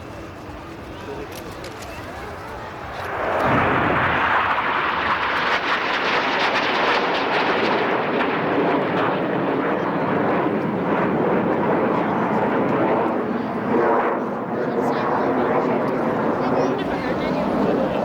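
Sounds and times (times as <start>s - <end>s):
jets flying past roaring: 0.0s - 18.0s.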